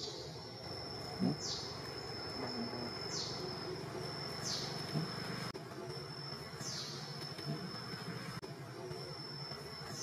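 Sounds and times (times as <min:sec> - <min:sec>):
insect buzzing: 0:00.0 - 0:10.0.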